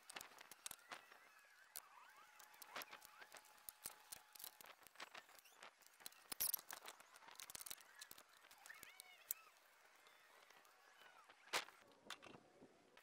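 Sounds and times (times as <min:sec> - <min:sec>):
clamps and wood blocks clicking: 0:00.0 - 0:10.8.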